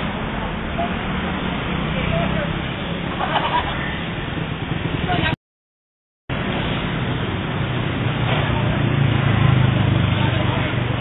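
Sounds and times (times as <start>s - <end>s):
road traffic noise: 0.0s - 5.4s, 6.3s - 11.0s.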